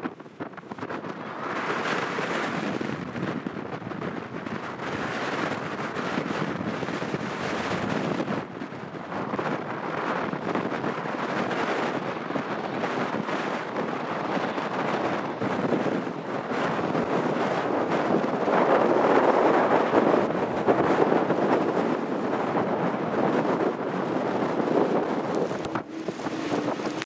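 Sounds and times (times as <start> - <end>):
jet engine noise: 0.0 - 27.0
wind buffeting microphone: 0.0 - 27.0.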